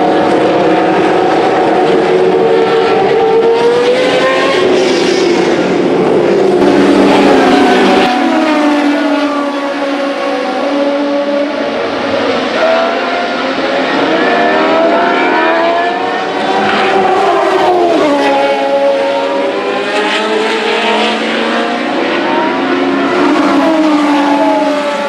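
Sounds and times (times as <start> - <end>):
race car engines accelerating: 0.0 - 25.0.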